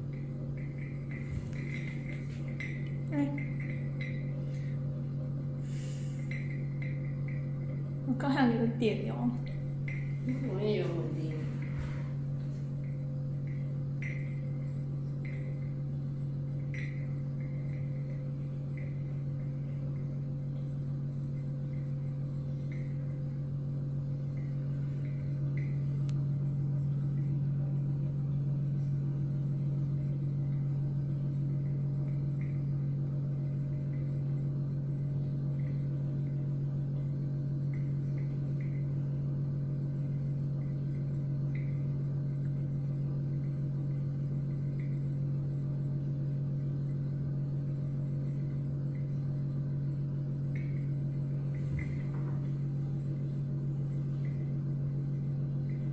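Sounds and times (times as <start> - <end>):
magnetic stirrer humming: 0.0 - 55.9.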